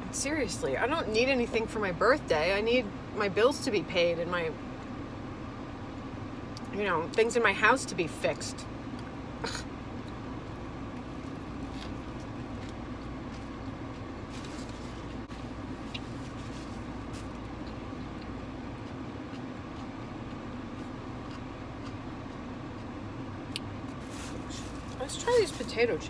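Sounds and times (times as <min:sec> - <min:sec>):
car interior hum: 0:00.0 - 0:26.0.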